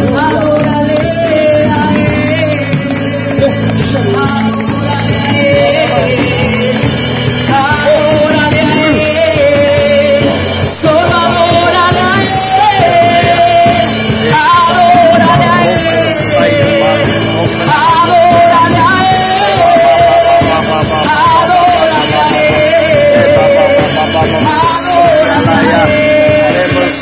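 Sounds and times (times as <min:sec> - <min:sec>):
amplified worship music: 0:00.0 - 0:27.0
person singing long-held melody: 0:00.0 - 0:27.0.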